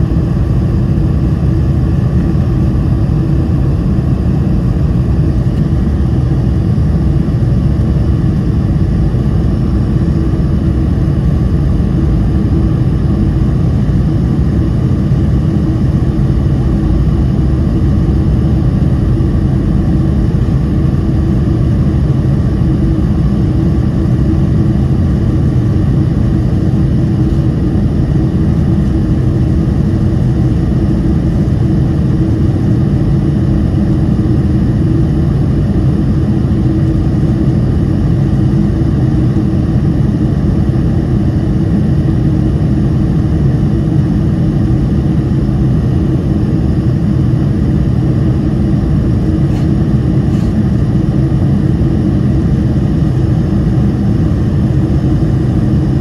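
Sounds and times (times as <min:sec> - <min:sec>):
airplane cabin roar: 0:00.0 - 0:56.0.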